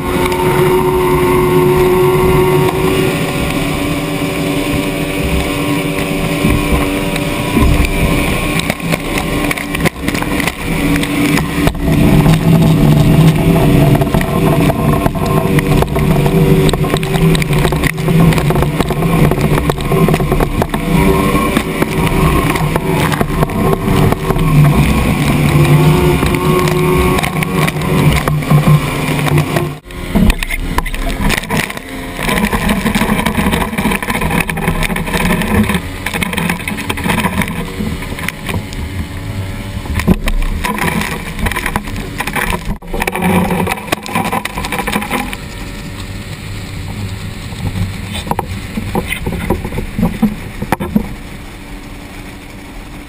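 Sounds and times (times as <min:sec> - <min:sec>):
boat outboard engine hum: 0:00.0 - 0:53.0
water rushing and splashing: 0:00.0 - 0:53.0.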